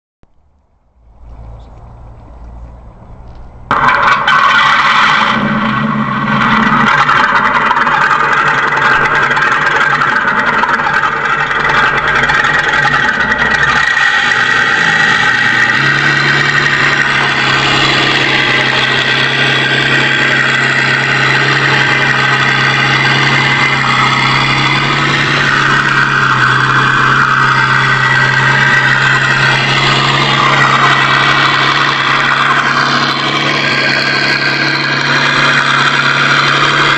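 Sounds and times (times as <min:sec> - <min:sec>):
simulated tank engine idling: 0:01.2 - 0:36.9.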